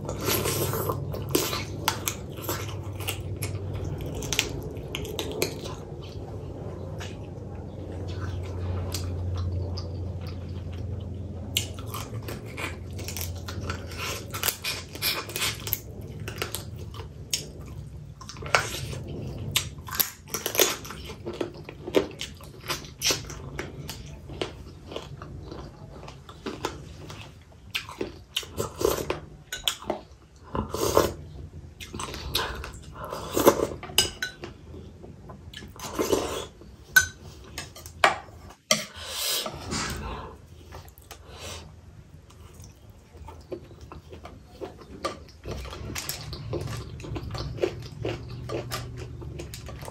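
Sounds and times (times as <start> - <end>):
low steady hum: 0.0 - 49.9
person chewing food: 0.0 - 49.9.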